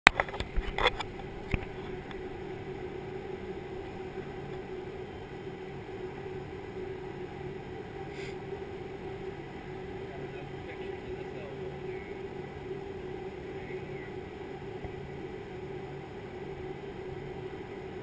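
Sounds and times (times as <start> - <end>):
aircraft engines droning: 0.1 - 18.0.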